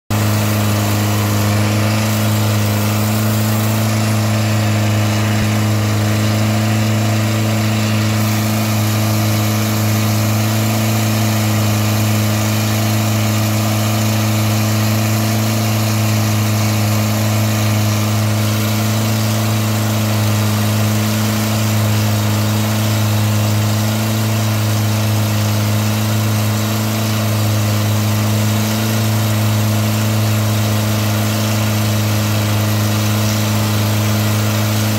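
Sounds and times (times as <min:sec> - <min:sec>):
boat engine running: 0:00.0 - 0:34.9
water rushing past hull: 0:00.1 - 0:34.9.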